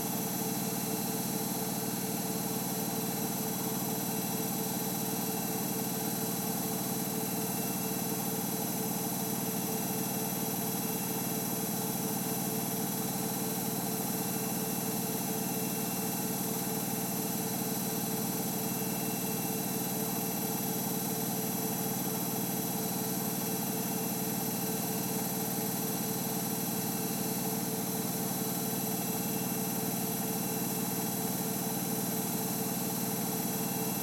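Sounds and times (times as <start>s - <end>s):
washing machine spinning: 0.0s - 34.0s.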